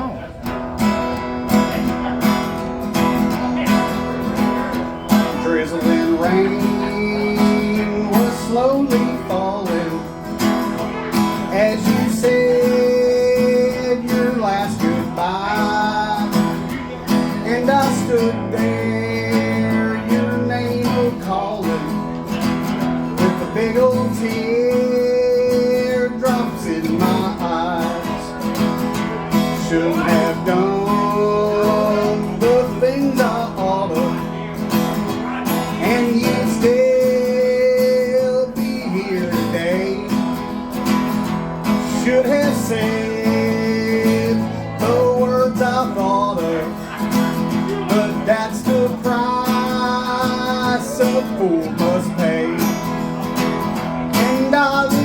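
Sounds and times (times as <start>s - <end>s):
strummed guitar: 0.0s - 55.0s.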